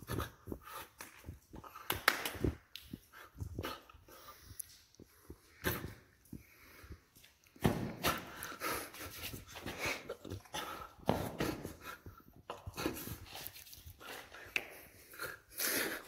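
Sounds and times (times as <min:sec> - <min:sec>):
man making breathy mouth sounds: 0:00.0 - 0:16.0.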